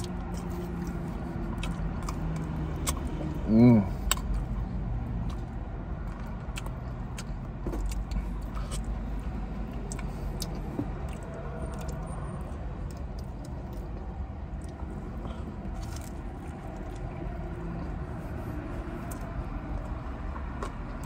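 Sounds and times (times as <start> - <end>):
low hum inside car: 0.0 - 21.0
wet chewing and lip smacks: 0.0 - 21.0.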